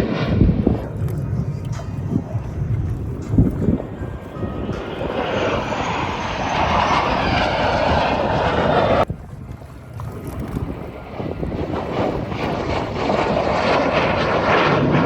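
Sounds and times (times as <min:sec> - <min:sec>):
airplane engine noise: 0:00.0 - 0:15.0.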